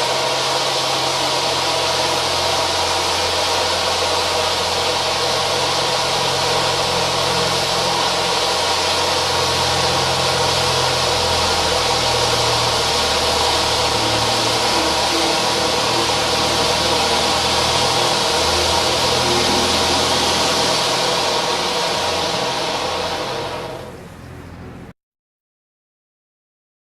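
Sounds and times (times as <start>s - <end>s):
firework fountain hissing: 0.0s - 24.9s
low hum: 0.0s - 24.9s.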